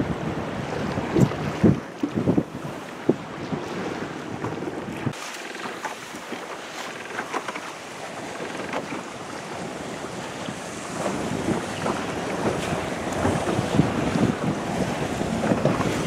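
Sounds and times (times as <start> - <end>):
wind buffeting microphone: 0.0 - 5.2, 8.0 - 16.0
waves splashing: 0.0 - 16.0.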